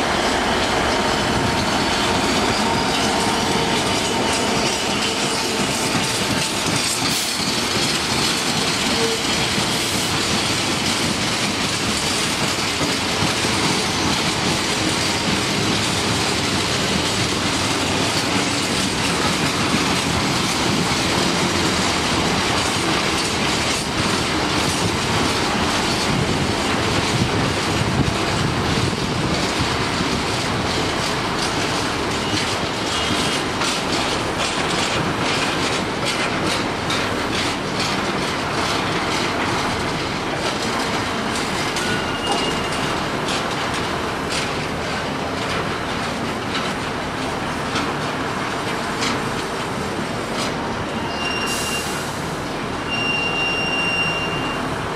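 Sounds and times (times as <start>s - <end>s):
freight train rolling past: 0.0s - 54.9s
wheels clattering over rail joints: 0.1s - 52.9s.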